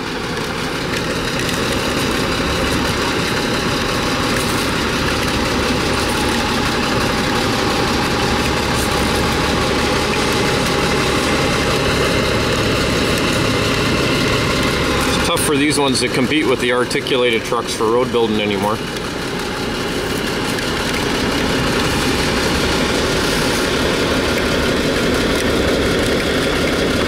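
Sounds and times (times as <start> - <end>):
heavy diesel engine idling: 0.0 - 27.0.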